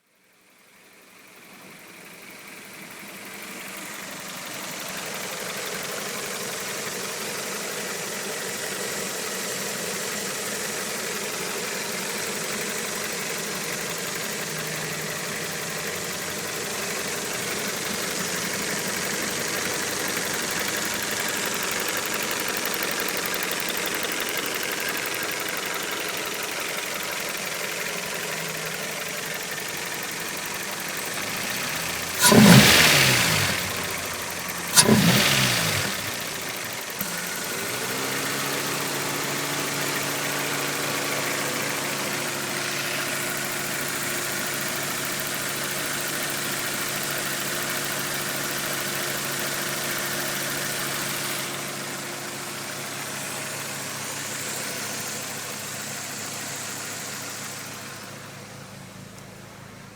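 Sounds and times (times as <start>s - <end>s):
car engine idling: 0.3s - 59.9s.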